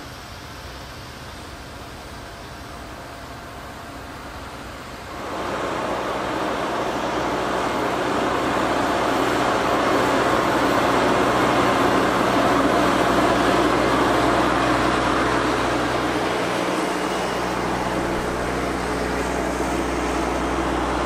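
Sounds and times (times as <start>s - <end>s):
diesel engine running under load: 1.6s - 21.0s.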